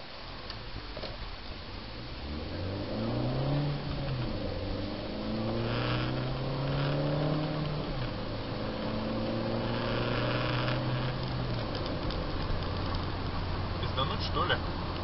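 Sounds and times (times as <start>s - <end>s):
road noise: 0.0s - 15.0s
car engine accelerating: 1.6s - 15.0s.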